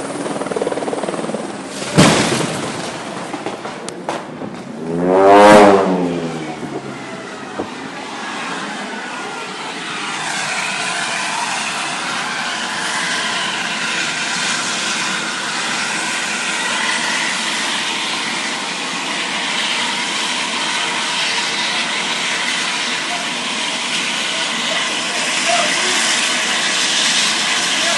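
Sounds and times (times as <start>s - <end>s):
helicopter rotor rushing noise: 0.0s - 27.9s
turbine whine: 0.0s - 27.9s.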